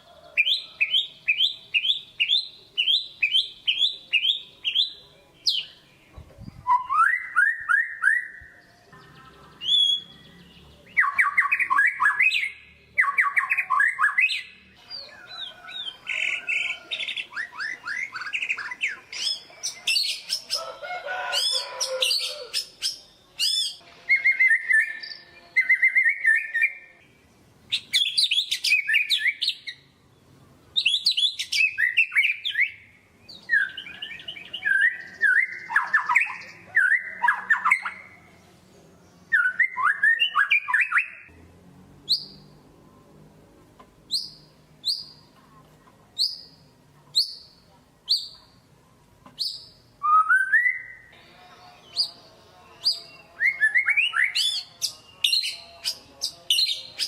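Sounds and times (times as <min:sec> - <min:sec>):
bird singing trills and whistles: 0:00.4 - 0:20.6, 0:21.4 - 0:26.8, 0:27.7 - 0:29.8, 0:30.8 - 0:38.2, 0:39.3 - 0:41.3, 0:44.1 - 0:45.2, 0:46.2 - 0:48.4, 0:49.4 - 0:57.0.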